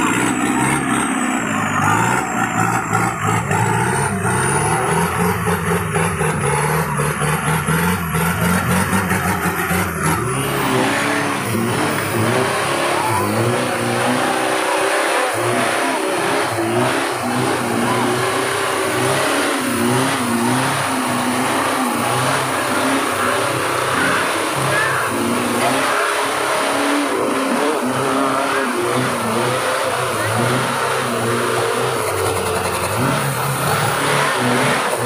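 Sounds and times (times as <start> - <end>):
truck engine revving: 0.0 - 35.0.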